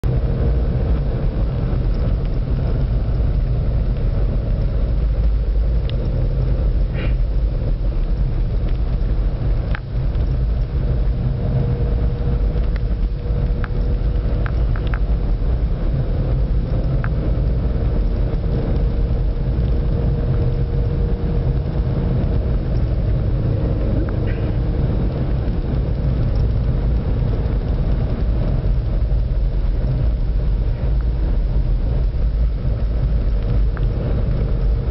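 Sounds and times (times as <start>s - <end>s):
car engine and tyres rumbling: 0.0s - 34.9s
light ticks: 0.9s - 11.2s, 11.8s - 34.9s.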